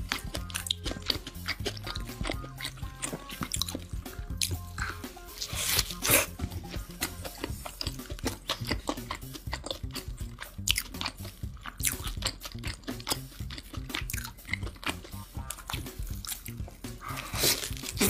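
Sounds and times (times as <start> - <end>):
background music: 0.0 - 18.0
chewing burger: 0.0 - 18.0.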